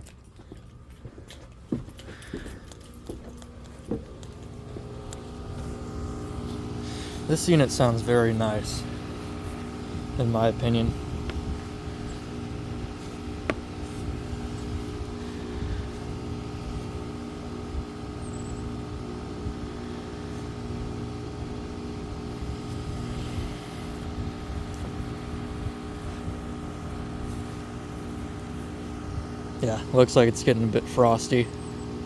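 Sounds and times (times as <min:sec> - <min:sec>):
heat pump compressor and fan hum: 0:00.0 - 0:32.0.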